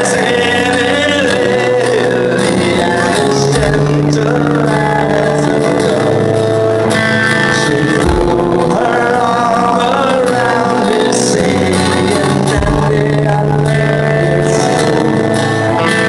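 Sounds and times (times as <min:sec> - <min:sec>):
man singing: 0:00.0 - 0:16.0
punk band playing live: 0:00.0 - 0:16.0.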